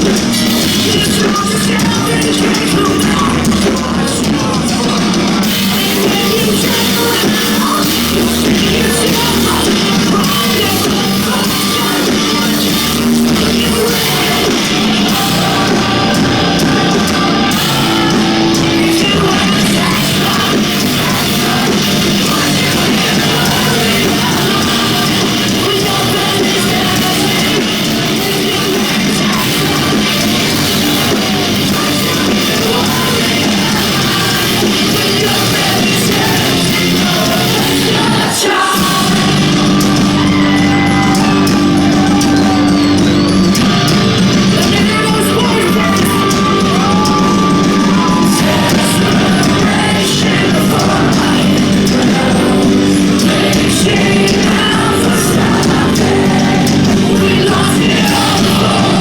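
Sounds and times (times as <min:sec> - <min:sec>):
live rock music: 0:00.0 - 0:59.0
singing and shouted vocals: 0:00.0 - 0:59.0.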